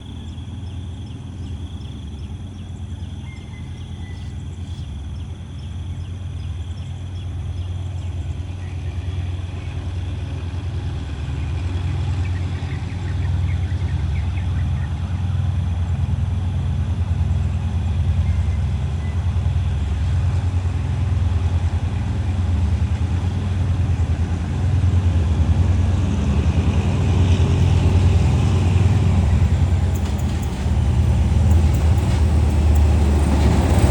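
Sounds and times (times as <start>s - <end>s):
diesel locomotive engine throbbing: 0.0s - 33.9s.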